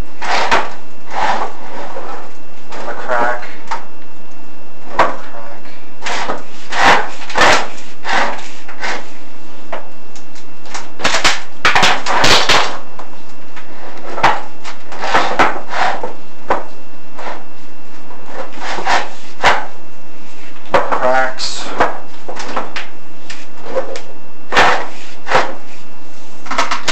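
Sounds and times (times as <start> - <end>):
cable scraping and knocking in flue: 0.0 - 26.9.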